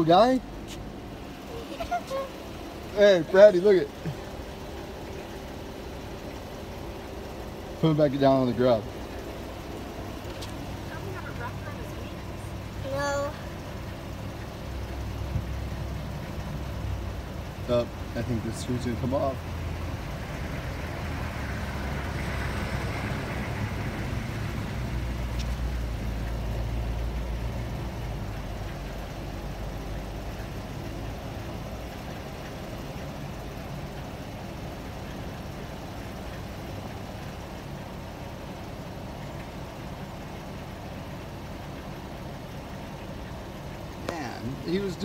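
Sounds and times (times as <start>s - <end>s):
low engine-like hum: 0.0s - 45.0s.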